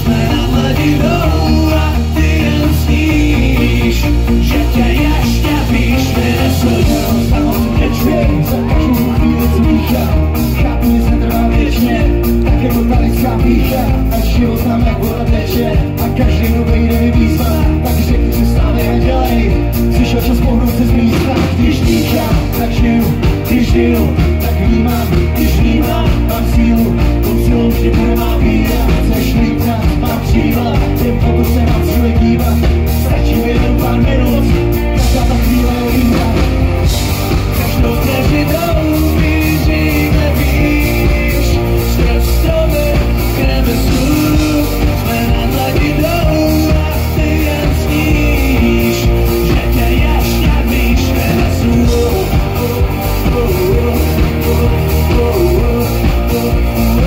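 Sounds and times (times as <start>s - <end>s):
drums keeping a beat: 0.0s - 57.0s
rock band playing: 0.0s - 57.0s.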